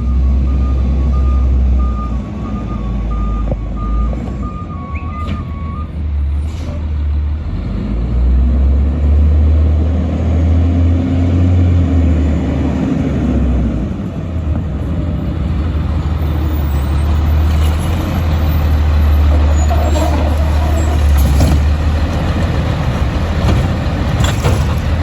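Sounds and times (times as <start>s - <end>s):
garbage truck diesel engine rumbling: 0.0s - 25.0s.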